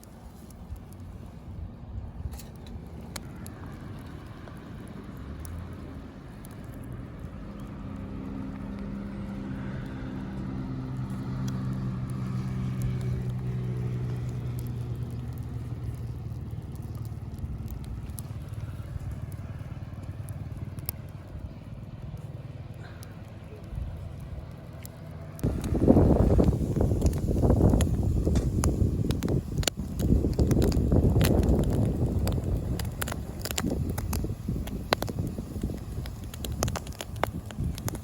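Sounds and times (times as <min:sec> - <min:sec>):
faint crackles: 0:00.0 - 0:38.0
vehicle engine passing: 0:03.2 - 0:34.3.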